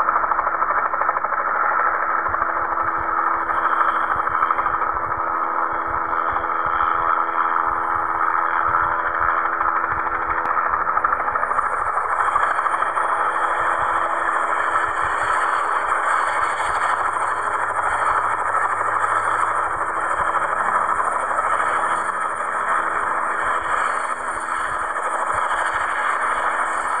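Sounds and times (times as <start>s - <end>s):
helicopter rotor noise: 0.0s - 27.0s
helicopter turbine whine: 0.0s - 27.0s.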